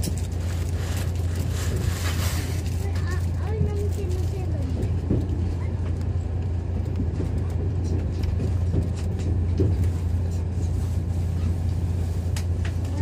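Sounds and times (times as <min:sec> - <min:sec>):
train interior rumble and hum: 0:00.0 - 0:13.0.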